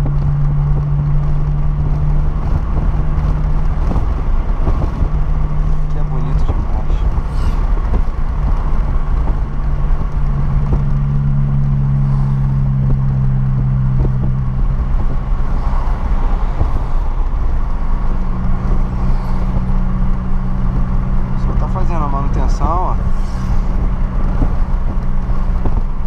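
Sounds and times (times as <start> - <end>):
car engine droning: 0.0 - 26.0
low road rumble: 0.0 - 26.0.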